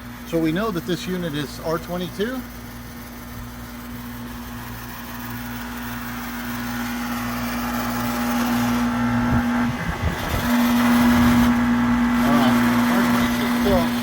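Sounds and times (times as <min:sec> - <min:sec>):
compressor electrical hum: 0:00.0 - 0:14.0
condenser fan rushing: 0:00.0 - 0:14.0.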